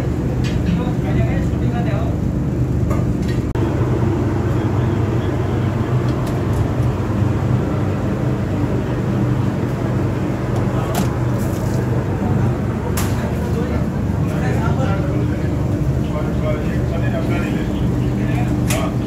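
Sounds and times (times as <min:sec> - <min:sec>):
low mechanical drone: 0:00.0 - 0:19.0.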